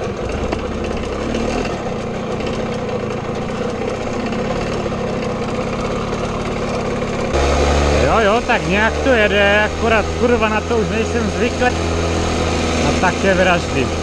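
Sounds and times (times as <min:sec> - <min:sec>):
moped two-stroke engine running: 0:00.0 - 0:14.0.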